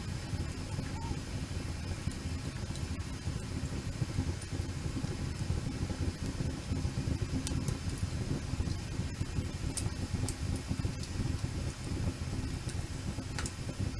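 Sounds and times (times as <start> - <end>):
burning wood crackling and popping: 0.0 - 13.9
campfire rumbling: 0.0 - 13.9.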